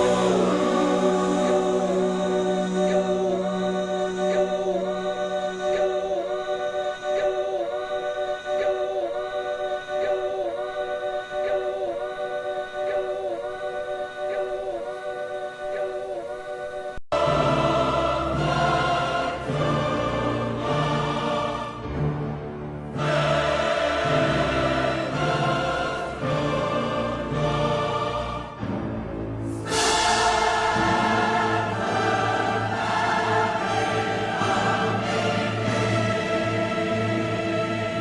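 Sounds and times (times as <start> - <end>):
choir-like voices holding a chord: 0.0 - 38.0.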